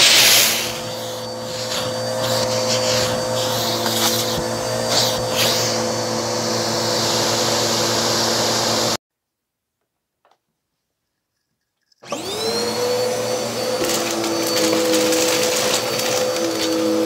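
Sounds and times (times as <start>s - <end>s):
vacuum cleaner running: 0.0s - 9.0s, 12.0s - 17.0s.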